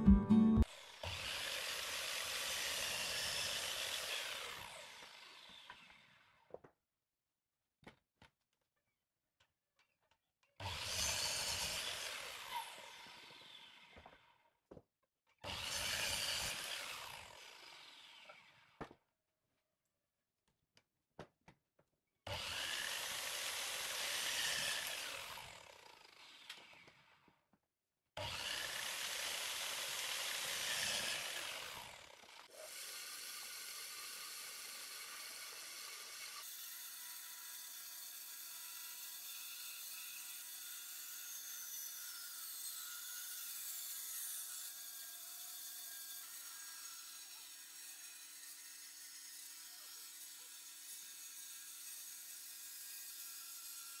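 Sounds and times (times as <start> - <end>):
bandsaw cutting wood: 0.0 - 6.4, 10.6 - 14.2, 15.4 - 18.9, 22.3 - 27.2, 28.2 - 54.0
miter saw cutting wood: 0.6 - 6.3, 10.6 - 14.2, 15.4 - 18.9, 22.3 - 27.2, 28.2 - 54.0.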